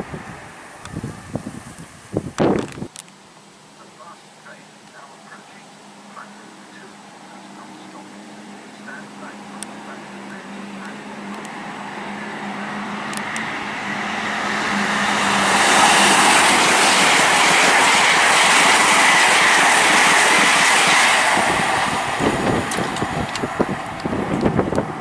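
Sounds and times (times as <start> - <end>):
train passing at speed: 0.0 - 2.4, 3.6 - 25.0
wind buffeting microphone: 0.0 - 3.0, 7.9 - 25.0.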